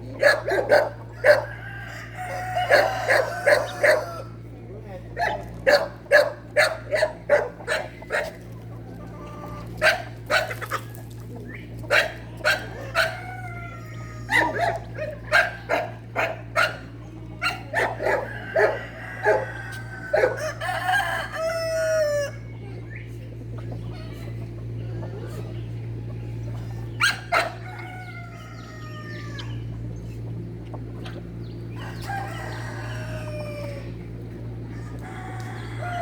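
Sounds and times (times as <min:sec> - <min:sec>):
fowl clucking and squawking: 0:00.0 - 0:36.0
steady low hum: 0:00.0 - 0:36.0.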